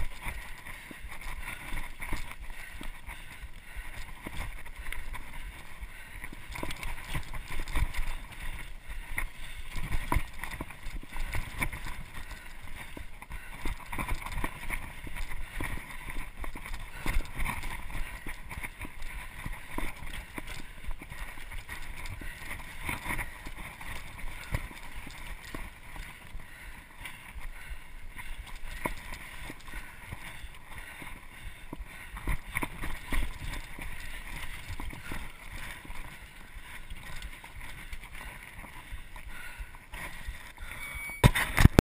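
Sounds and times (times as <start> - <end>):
bike rattling and knocking: 0.0 - 40.6
bike tyres on dirt trail: 0.0 - 41.7.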